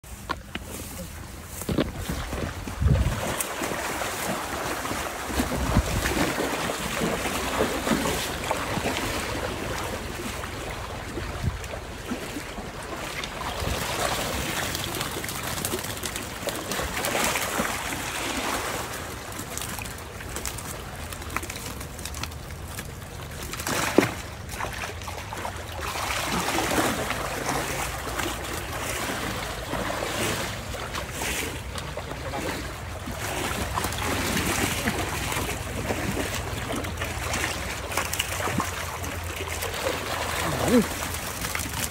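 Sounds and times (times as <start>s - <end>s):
water splashing from wading: 0.1s - 41.9s.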